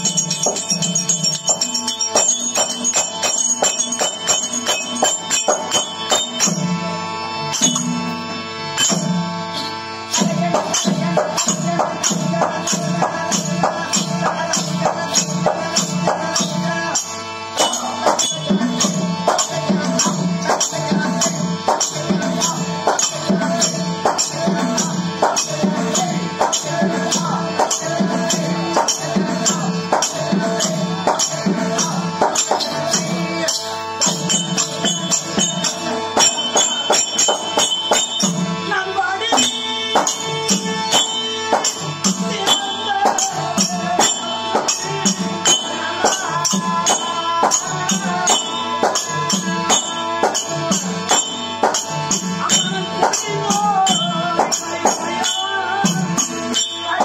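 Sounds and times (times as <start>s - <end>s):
hand drums beating: 0.0s - 57.0s
jingling metallic percussion: 0.0s - 57.0s.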